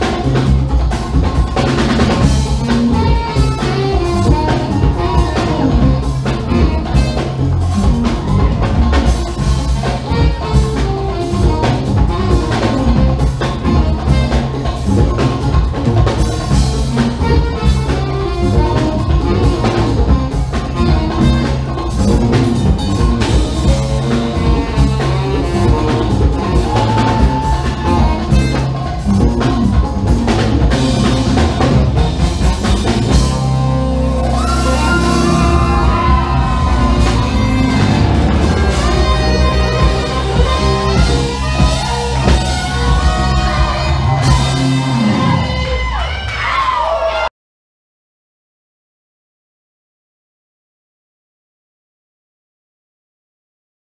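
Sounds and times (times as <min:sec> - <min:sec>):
busy drumming: 0:00.0 - 0:46.4
funk band playing: 0:00.0 - 0:47.2.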